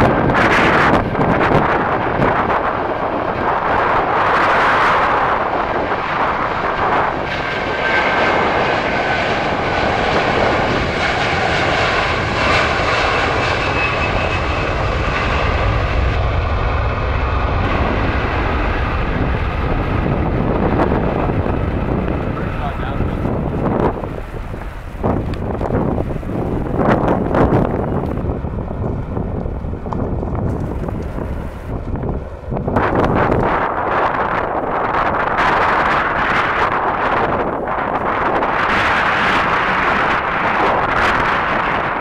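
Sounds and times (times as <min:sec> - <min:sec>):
jet engines rushing: 0:00.0 - 0:42.0.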